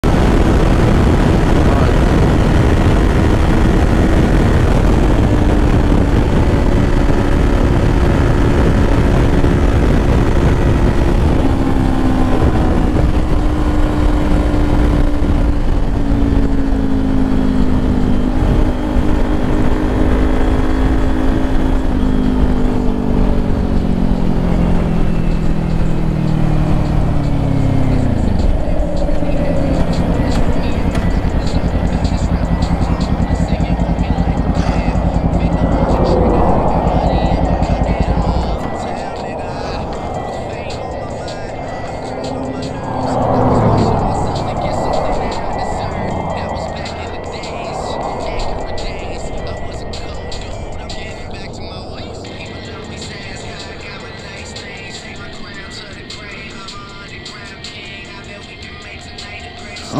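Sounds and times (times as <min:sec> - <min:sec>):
wind rush on microphone: 0:00.0 - 0:51.8
motorcycle engine at speed: 0:00.0 - 0:52.6.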